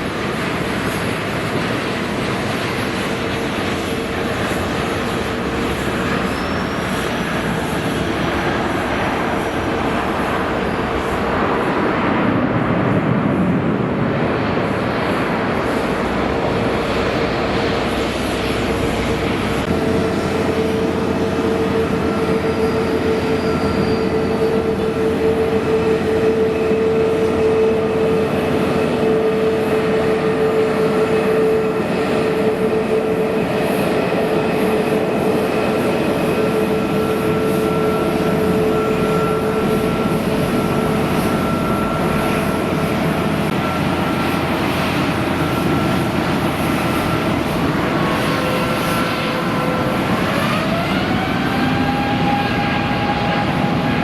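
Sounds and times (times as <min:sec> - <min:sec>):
high engine whine: 0:00.0 - 0:54.0
jet engines running: 0:00.0 - 0:54.0.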